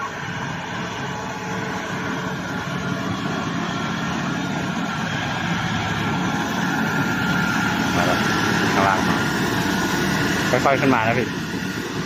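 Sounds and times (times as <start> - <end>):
thin high whine: 0.0 - 12.0
truck diesel engine labouring: 0.0 - 12.0.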